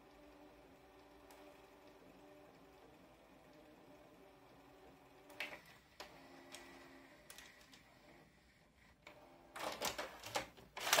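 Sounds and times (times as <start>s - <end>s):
faint motor hum: 0.0s - 11.0s.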